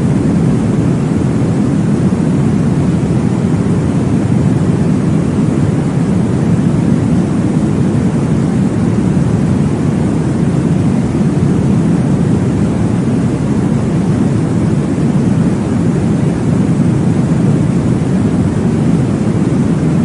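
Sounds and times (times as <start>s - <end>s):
deep whooshing white noise: 0.0s - 20.0s.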